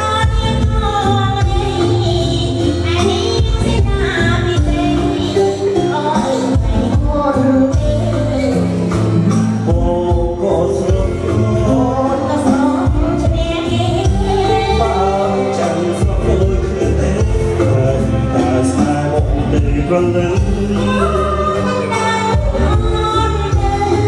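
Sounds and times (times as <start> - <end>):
amplified band accompaniment: 0.0 - 24.0
woman and man singing duet: 0.0 - 24.0.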